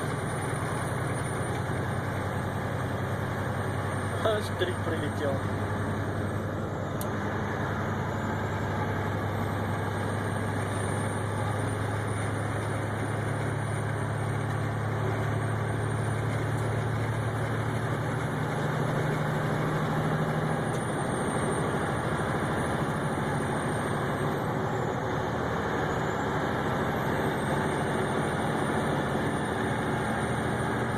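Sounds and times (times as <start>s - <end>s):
engine and road drone in cab: 0.0s - 30.9s.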